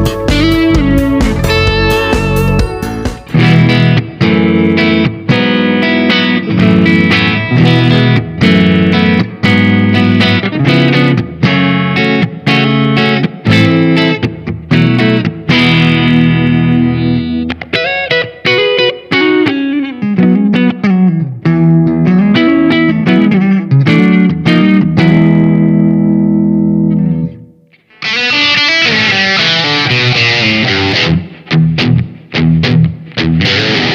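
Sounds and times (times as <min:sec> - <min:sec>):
distorted guitar strumming: 0:00.0 - 0:33.9
electric guitar through amp: 0:00.0 - 0:33.9.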